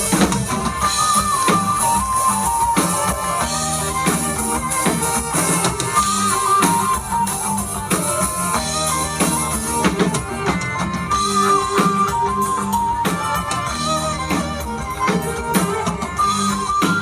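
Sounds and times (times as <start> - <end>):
drum kit beat: 0.0 - 17.0
guitar: 0.0 - 17.0
melodic lead line: 0.0 - 17.0.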